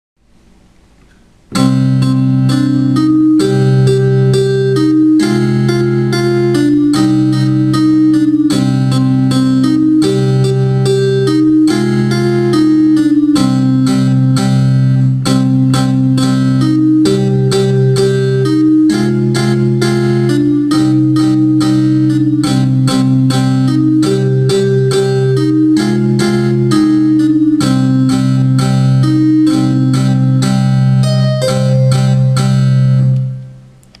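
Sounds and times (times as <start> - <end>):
digital piano piece: 0.3 - 34.0.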